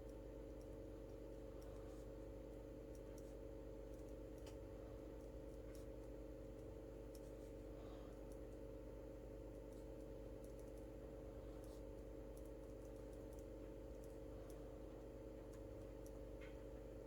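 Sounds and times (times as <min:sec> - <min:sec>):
light clicks and taps: 0:00.0 - 0:08.7, 0:09.3 - 0:16.9
low electrical hum: 0:00.0 - 0:17.0.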